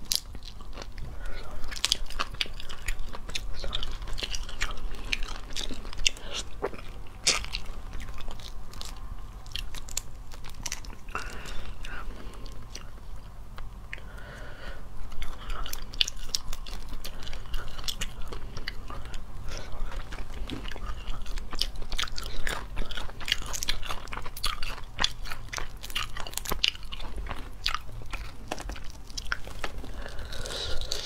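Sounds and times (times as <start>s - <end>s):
crayfish shells cracking: 0.0s - 11.8s, 15.2s - 31.0s
chewing: 0.0s - 14.3s, 15.1s - 31.0s.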